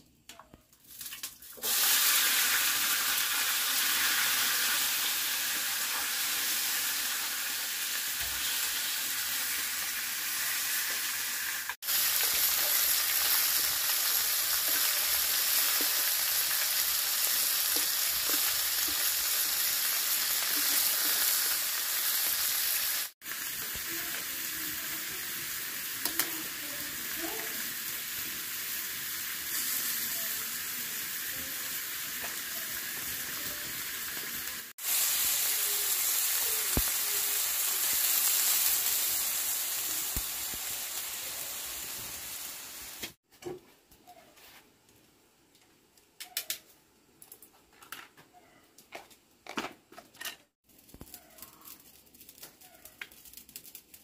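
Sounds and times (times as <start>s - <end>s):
food sizzling in a pan: 0.8s - 43.2s, 50.6s - 54.0s.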